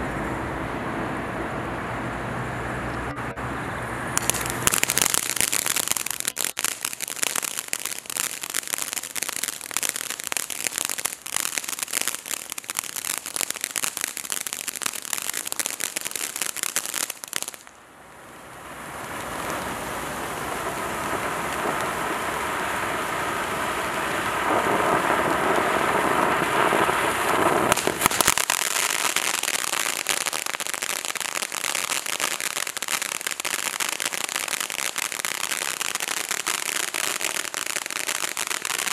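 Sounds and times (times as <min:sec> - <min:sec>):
firework rushing hiss: 0:04.2 - 0:38.9
firework sparks crackling: 0:04.2 - 0:38.9.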